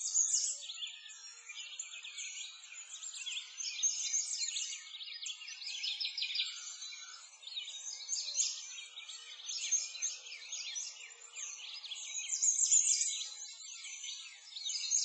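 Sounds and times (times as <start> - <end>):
songbirds chirping and twittering: 0.0 - 15.0.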